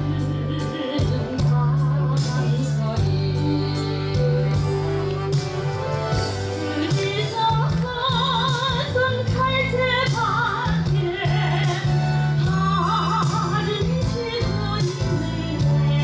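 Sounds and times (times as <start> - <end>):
woman singing with vibrato: 0.0 - 5.4, 6.1 - 16.0
music accompaniment with bass line: 0.0 - 16.0.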